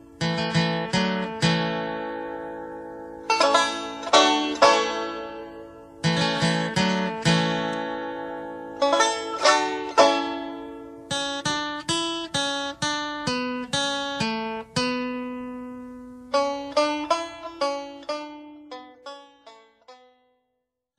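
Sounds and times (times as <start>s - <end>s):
acoustic guitar picking notes: 0.0s - 20.2s.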